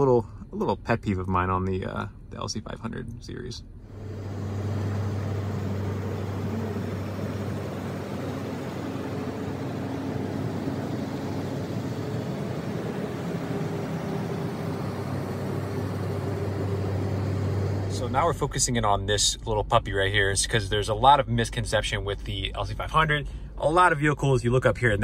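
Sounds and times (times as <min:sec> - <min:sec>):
car engine running: 0:03.6 - 0:25.0.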